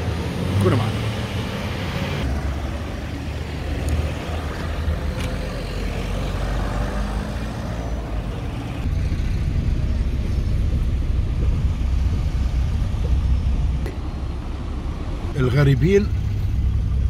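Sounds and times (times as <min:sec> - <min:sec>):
cars passing by: 0:00.0 - 0:17.0.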